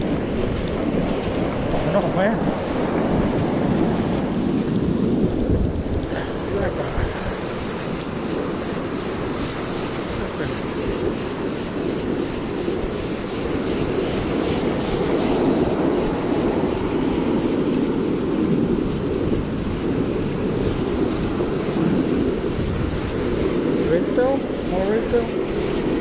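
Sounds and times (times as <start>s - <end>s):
surf rushing: 0.0s - 26.0s
wind buffeting microphone: 0.0s - 26.0s.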